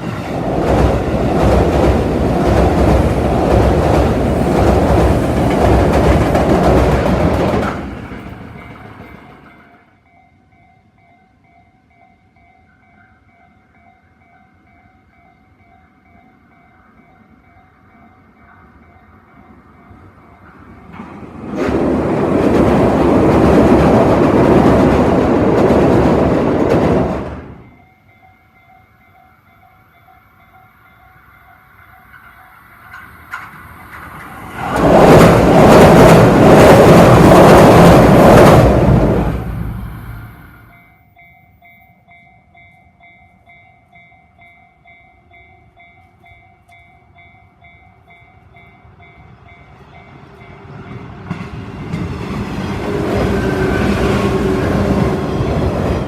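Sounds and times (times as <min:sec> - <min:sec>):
train rail noise: 0:00.0 - 0:56.0.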